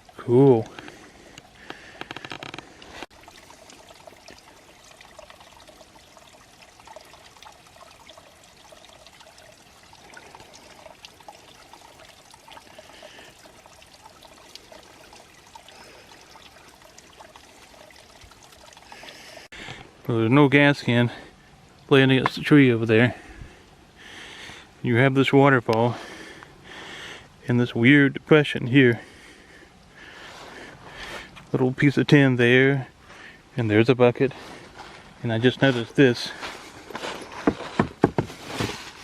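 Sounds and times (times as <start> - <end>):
waterfall trickling and splashing: 0.0 - 39.0.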